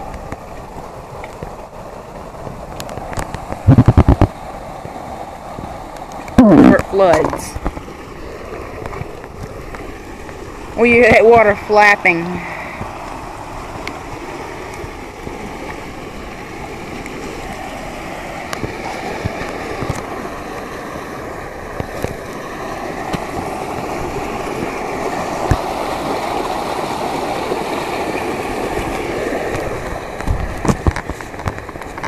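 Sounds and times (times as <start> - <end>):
stream rushing and splashing: 0.0 - 32.0.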